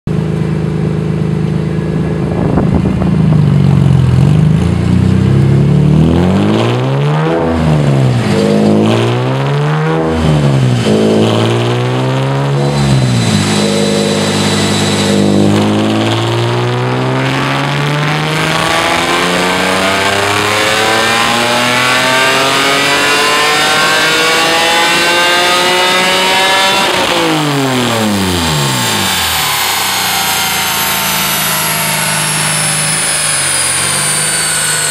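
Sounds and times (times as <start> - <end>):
car engine revving on dyno: 0.2 - 34.9.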